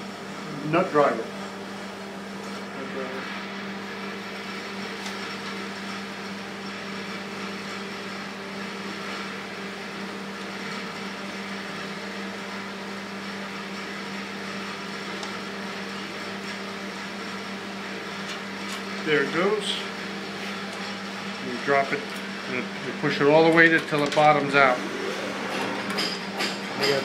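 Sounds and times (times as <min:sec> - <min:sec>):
machinery hum: 0:00.0 - 0:27.0.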